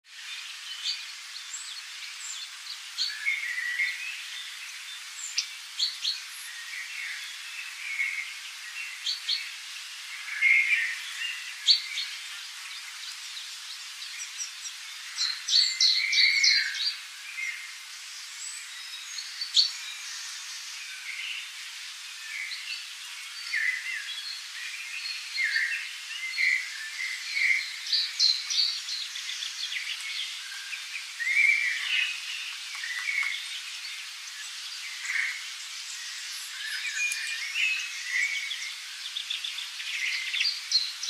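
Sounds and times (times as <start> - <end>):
steady hiss: 0.0 - 41.0
songbirds chirping and singing: 0.1 - 41.0.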